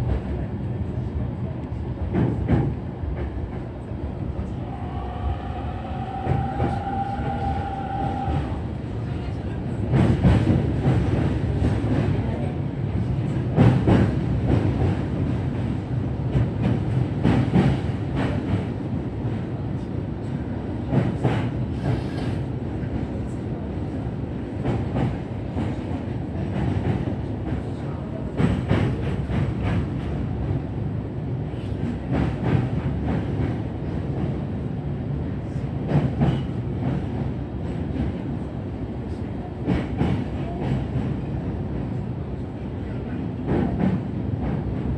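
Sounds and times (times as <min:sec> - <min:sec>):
train low rumble: 0:00.0 - 0:44.9.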